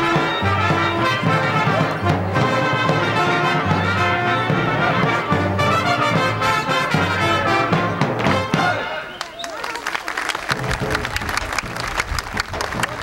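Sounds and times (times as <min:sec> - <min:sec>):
brass band playing: 0:00.0 - 0:09.2, 0:10.5 - 0:13.0.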